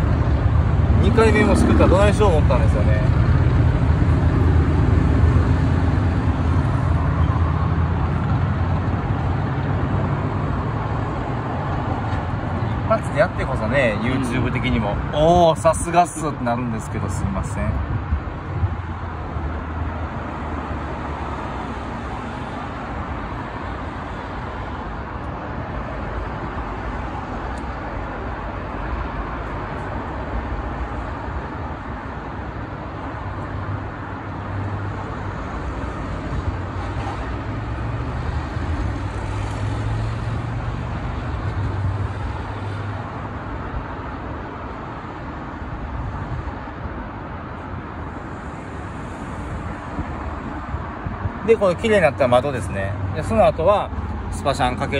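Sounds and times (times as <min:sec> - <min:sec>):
road traffic: 0:00.0 - 0:54.9.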